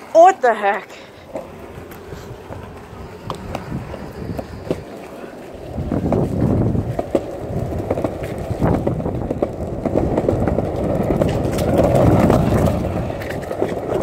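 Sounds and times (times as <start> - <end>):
skateboard wheels rumbling on concrete: 0.0 - 14.0
wheels clacking over joints: 0.0 - 14.0.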